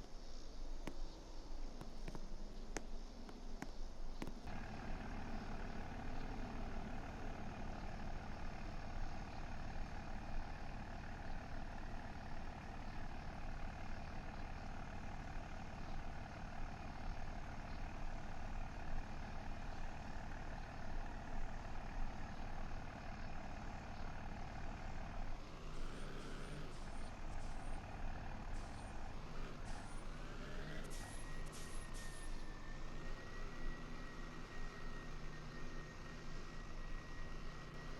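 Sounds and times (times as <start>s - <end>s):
truck engine running: 4.2s - 37.9s.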